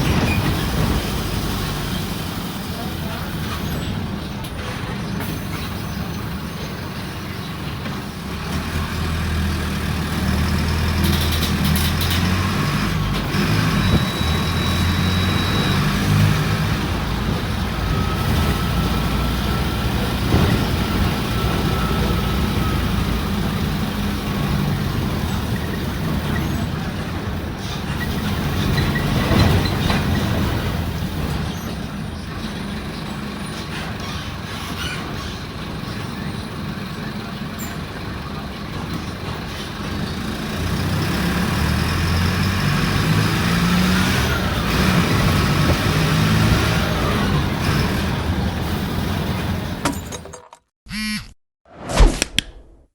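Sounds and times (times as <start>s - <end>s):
bus diesel engine running: 0.0s - 50.3s.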